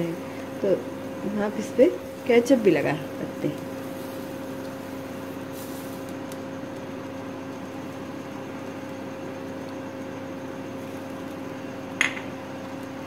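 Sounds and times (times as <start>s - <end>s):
electrical hum with fan whir: 0.0s - 13.0s.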